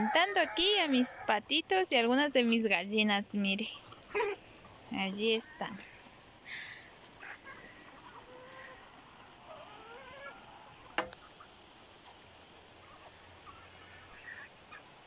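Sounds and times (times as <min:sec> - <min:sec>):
ducks and hens clucking: 0:00.0 - 0:15.0.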